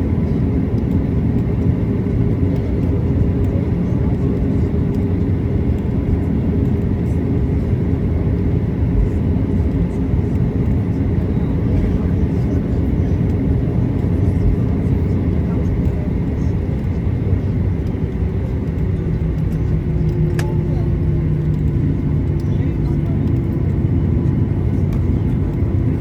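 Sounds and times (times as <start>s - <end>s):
aircraft cabin drone: 0.0s - 26.0s
constant hum: 0.0s - 26.0s.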